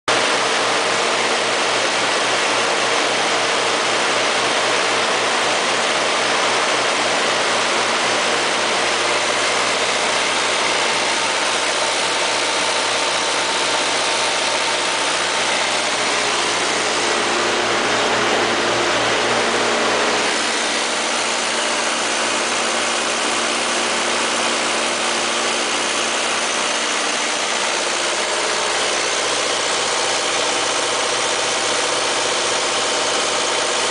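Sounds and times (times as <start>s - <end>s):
diesel generator running: 0.1s - 33.9s.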